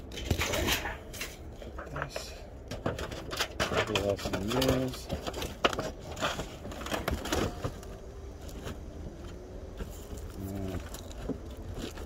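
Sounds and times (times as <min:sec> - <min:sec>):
sheet metal scraping on shingles: 0:00.0 - 0:12.0.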